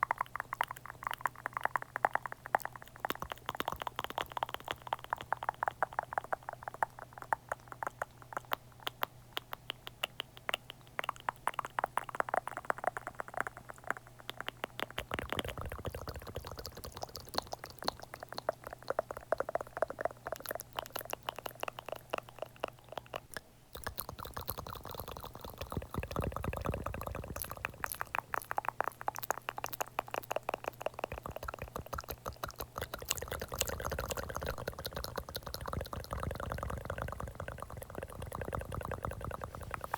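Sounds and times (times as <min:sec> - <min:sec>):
mouth clicks and smacks: 0:00.0 - 0:39.9.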